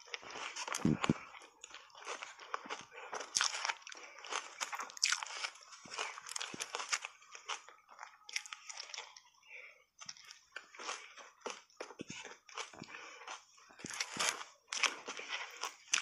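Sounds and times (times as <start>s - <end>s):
ice crunching between teeth: 0.0s - 9.1s, 10.0s - 16.0s.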